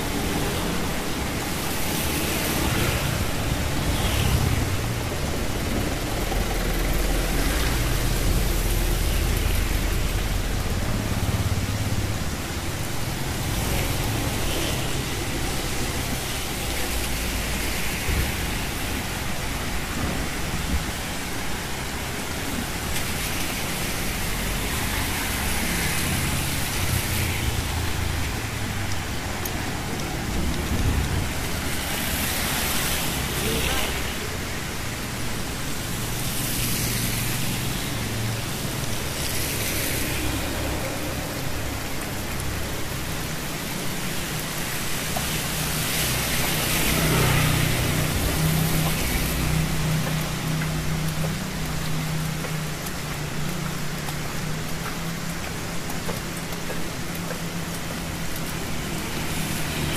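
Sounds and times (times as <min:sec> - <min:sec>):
rain on street and umbrella: 0:00.0 - 0:59.9
vehicle engines rumbling: 0:00.0 - 0:59.9.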